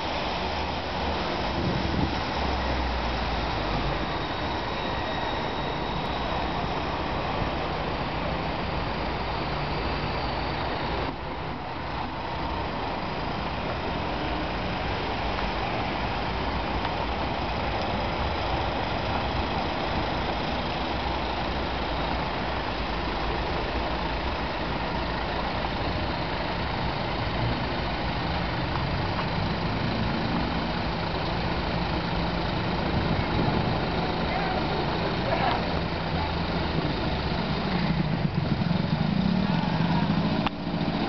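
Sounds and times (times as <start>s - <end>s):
city street traffic: 0.0s - 41.0s
engines idling: 0.0s - 41.0s.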